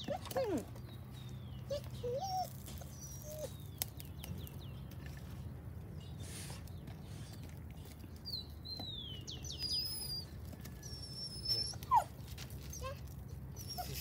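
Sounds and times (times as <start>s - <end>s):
birds chirping and whistling: 0.0s - 12.1s, 13.5s - 14.0s.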